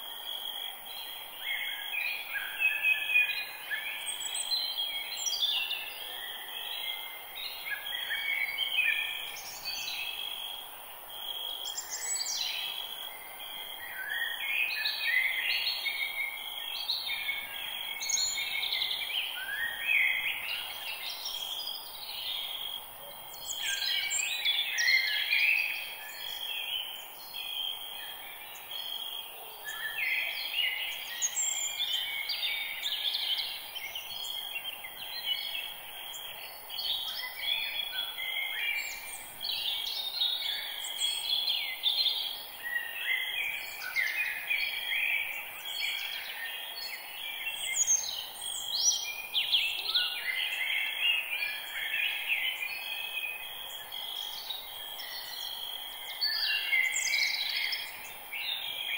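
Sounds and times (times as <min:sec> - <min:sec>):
steady high insect hum: 0:00.0 - 0:58.9.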